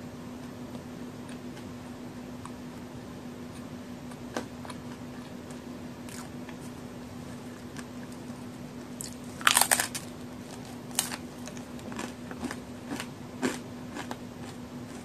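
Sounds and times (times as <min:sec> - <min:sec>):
quiet chewing: 0:00.4 - 0:02.9, 0:03.5 - 0:15.0.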